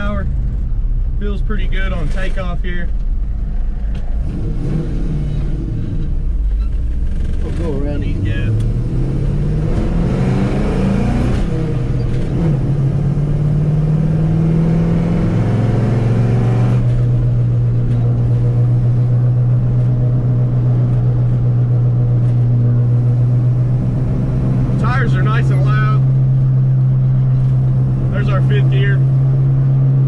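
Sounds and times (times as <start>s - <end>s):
mud tires humming: 0.0s - 30.0s
truck engine revving through gears: 4.0s - 30.0s.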